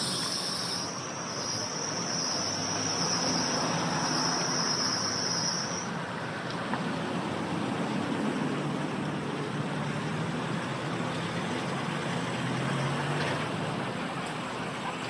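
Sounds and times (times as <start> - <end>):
car engines at low speed: 0.0 - 15.0
steady road noise: 0.0 - 15.0.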